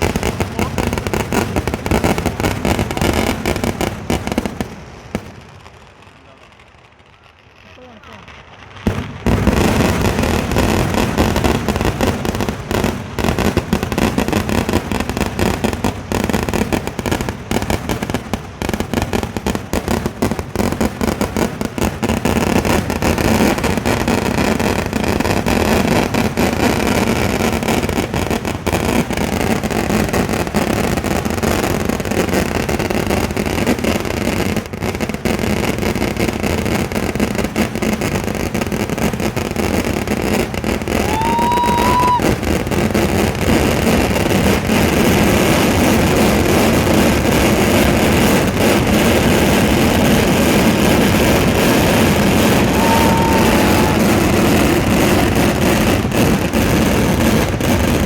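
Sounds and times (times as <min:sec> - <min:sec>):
firecracker bangs: 0:00.0 - 0:58.0.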